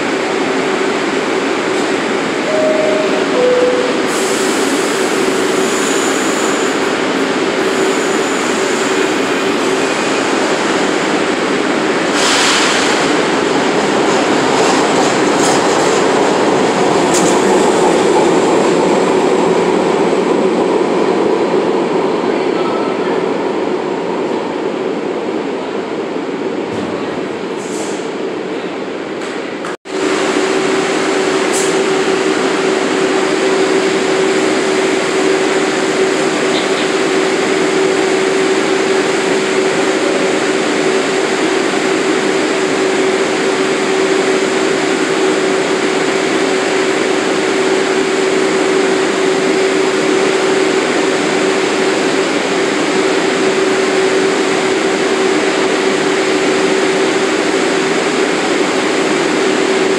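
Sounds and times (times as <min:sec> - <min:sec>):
subway train equipment humming: 0:00.0 - 0:59.9.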